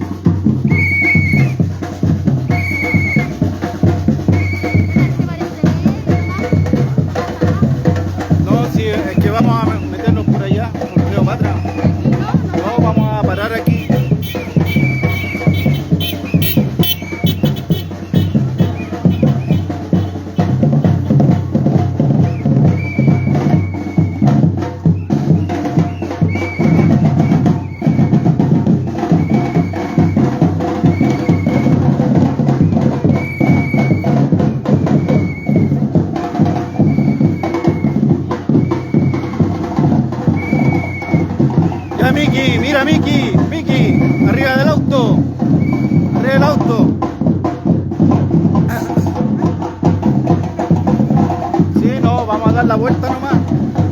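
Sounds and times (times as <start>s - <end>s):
drum group playing: 0.0s - 53.9s.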